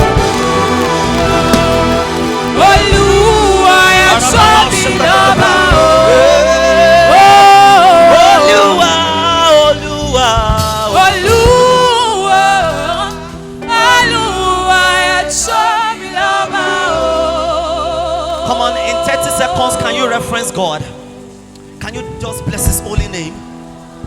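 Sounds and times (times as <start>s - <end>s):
choir singing slow worship song: 0.0s - 24.0s
instrumental accompaniment: 0.0s - 24.0s.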